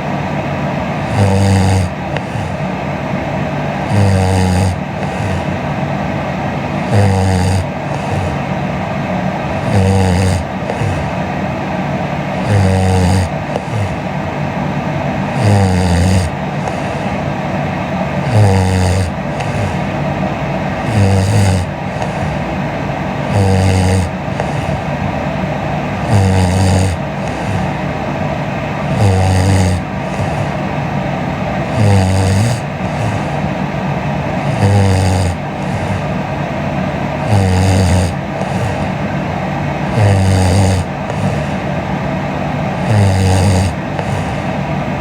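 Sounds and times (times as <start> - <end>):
woman snoring: 0.0 - 44.8.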